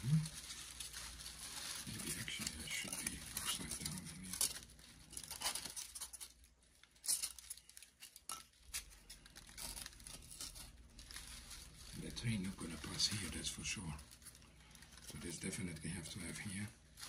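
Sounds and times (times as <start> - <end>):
crinkling and rustling material: 0.0 - 17.0.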